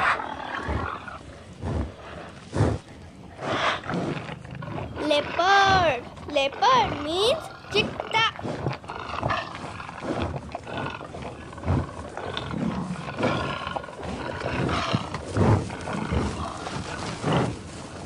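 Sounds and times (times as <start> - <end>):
big cat growling and roaring: 0.0 - 17.7.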